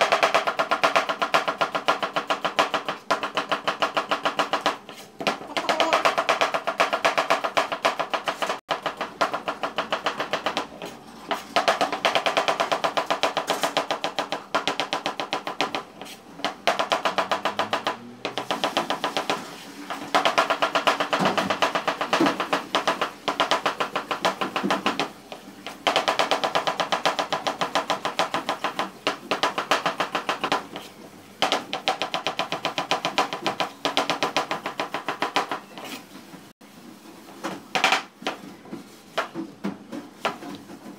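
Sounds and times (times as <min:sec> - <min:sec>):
knife chopping on cutting board: 0:00.0 - 0:19.4, 0:20.0 - 0:36.1.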